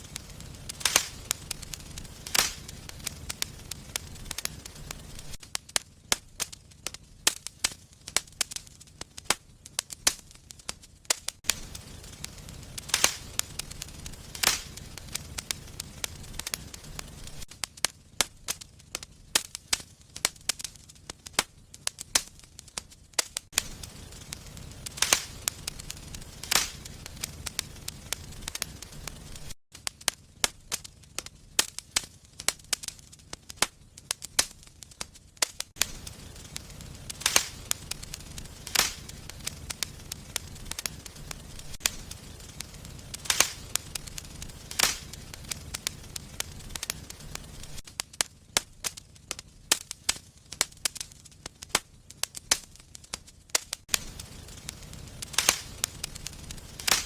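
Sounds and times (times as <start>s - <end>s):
burning wood popping: 0.0s - 57.0s
low rumble of flames: 0.0s - 57.0s
wood fire crackling: 0.0s - 57.0s.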